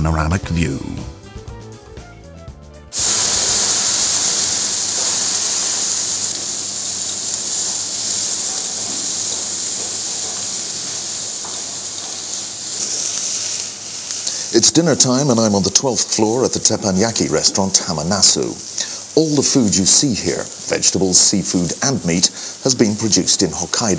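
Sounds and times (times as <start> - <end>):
seafood sizzling on a griddle: 2.9 - 23.9.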